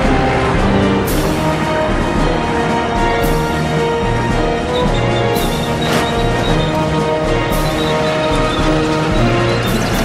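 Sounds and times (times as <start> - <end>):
film score music with held notes: 0.0 - 10.0.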